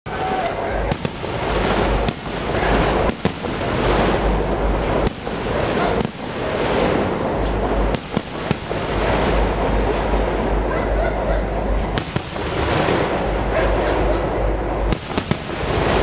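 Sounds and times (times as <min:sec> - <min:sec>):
fireworks crackle: 0:00.1 - 0:10.6, 0:11.8 - 0:14.0, 0:14.8 - 0:16.0
fireworks bursting: 0:00.1 - 0:16.0
low rumble: 0:00.1 - 0:16.0.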